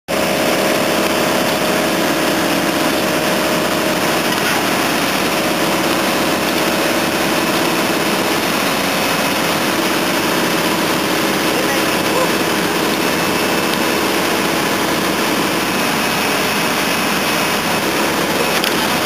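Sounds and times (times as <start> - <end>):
diesel engine running under load: 0.1 - 19.0.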